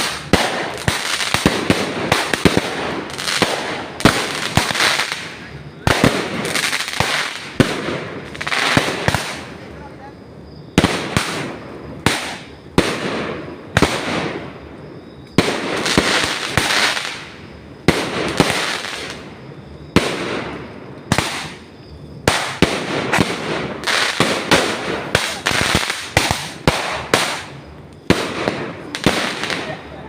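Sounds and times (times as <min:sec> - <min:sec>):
fireworks banging: 0:00.0 - 0:10.0, 0:10.7 - 0:30.0.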